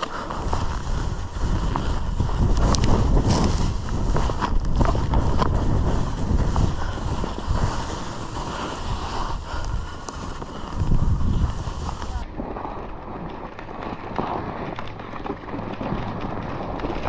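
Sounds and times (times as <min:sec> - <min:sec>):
skis scraping on snow: 0:00.0 - 0:17.0
wind buffeting microphone: 0:00.0 - 0:17.0.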